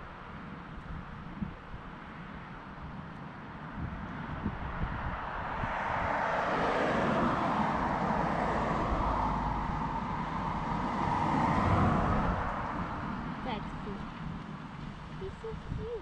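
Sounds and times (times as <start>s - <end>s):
car road noise: 0.0s - 16.0s.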